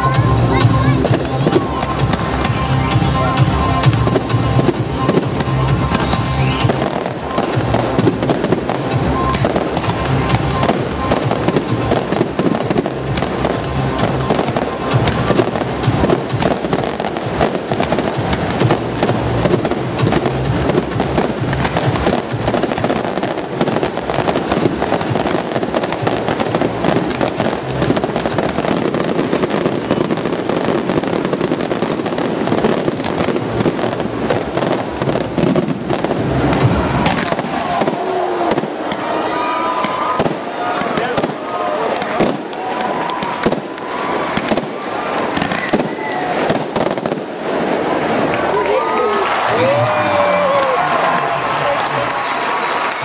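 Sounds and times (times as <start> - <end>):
fireworks bangs and crackling pops: 0.0 - 53.0
music playing: 0.0 - 53.0.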